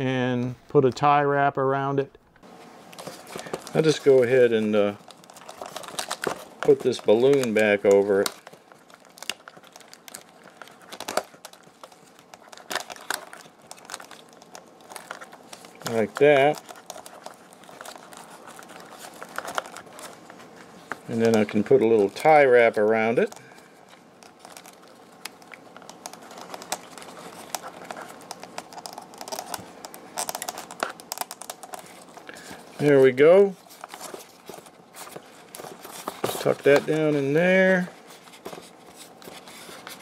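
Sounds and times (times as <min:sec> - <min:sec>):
handling noise: 0:02.4 - 0:40.0
small clicks and crinkles: 0:02.9 - 0:40.0.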